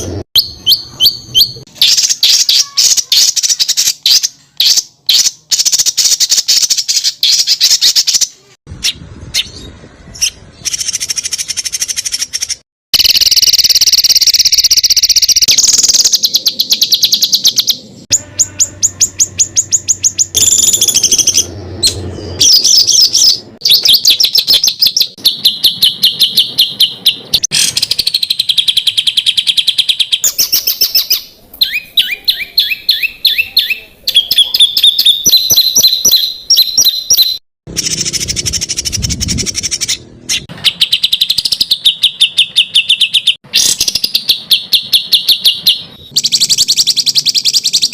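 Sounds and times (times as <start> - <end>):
songbird trills: 0.4 - 47.9.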